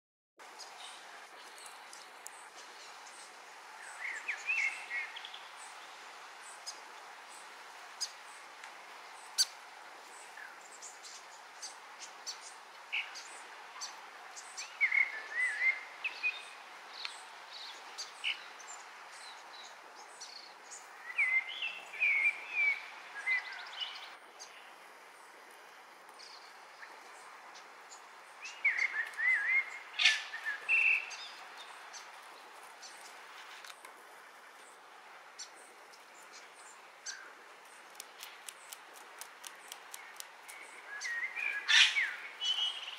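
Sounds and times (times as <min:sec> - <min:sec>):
songbirds twittering: 0:00.4 - 0:25.4, 0:26.1 - 0:42.9
background hiss: 0:00.4 - 0:42.9.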